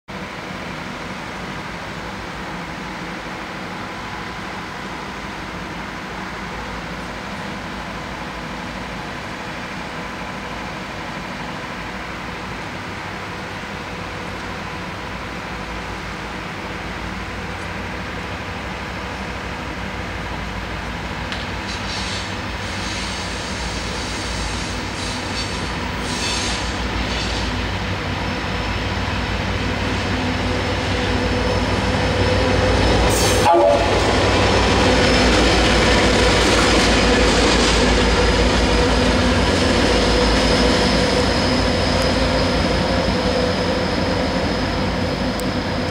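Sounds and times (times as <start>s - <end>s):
locomotive engine humming: 0.2s - 45.9s.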